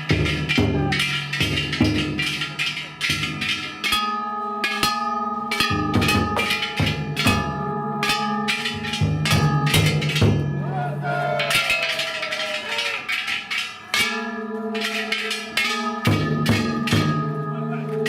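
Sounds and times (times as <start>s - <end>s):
big drum beats: 0.0s - 17.6s
gongs clanging: 0.0s - 18.0s.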